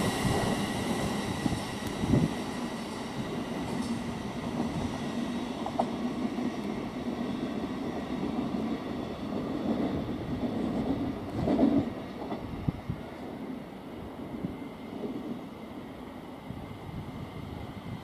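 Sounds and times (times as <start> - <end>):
electric train rumble and whine: 0.0 - 18.0.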